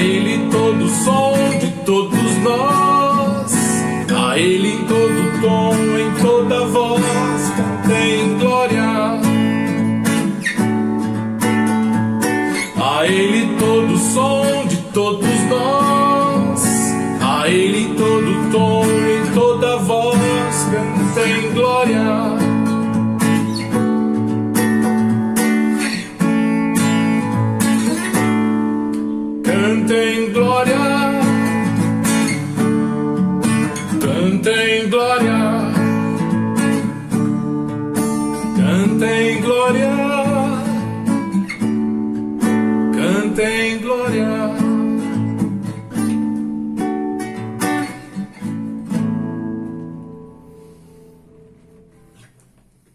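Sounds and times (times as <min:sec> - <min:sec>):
acoustic guitar strumming chords: 0:00.0 - 0:52.9.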